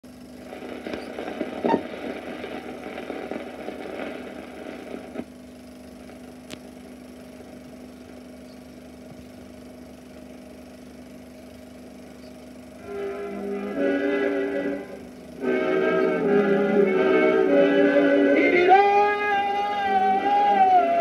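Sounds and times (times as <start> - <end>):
low steady hum: 0.0 - 21.0
projector whirring: 0.0 - 21.0.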